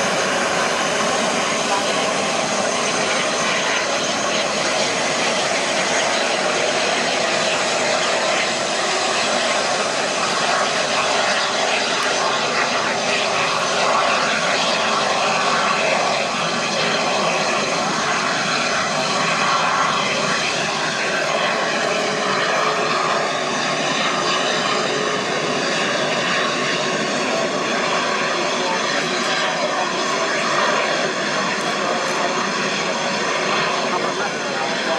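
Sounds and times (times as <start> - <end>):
jet engines rushing: 0.0 - 34.9.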